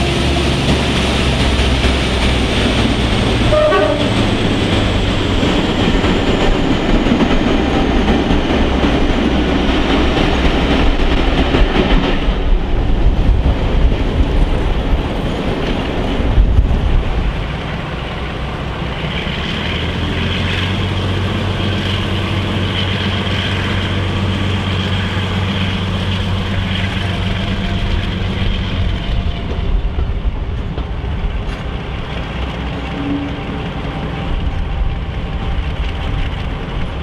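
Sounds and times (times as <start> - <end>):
diesel engines droning: 0.0 - 11.2, 14.7 - 37.0
train wheels rumbling: 0.0 - 37.0.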